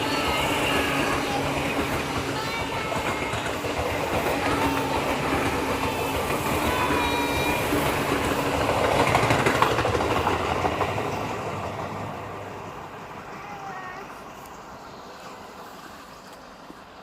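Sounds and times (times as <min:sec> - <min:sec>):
train clattering past: 0:00.0 - 0:17.0.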